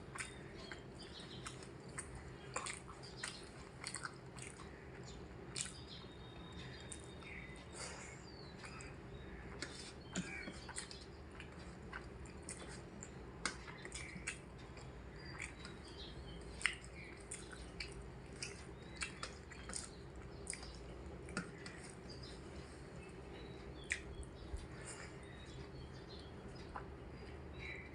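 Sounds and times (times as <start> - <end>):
chewing with wet lip smacks: 0.1 - 7.8, 8.4 - 27.4.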